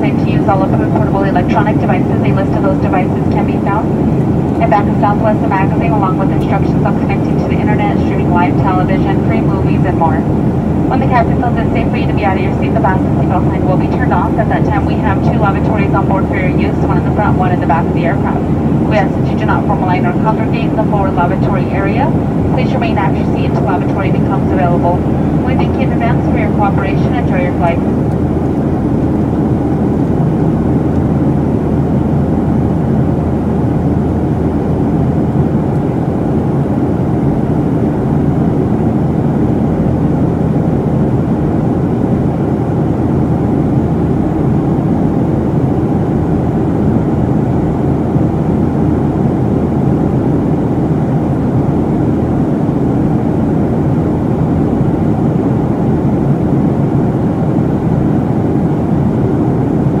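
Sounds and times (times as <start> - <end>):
jet engines droning: 0.0 - 60.0
rushing airflow: 0.5 - 60.0.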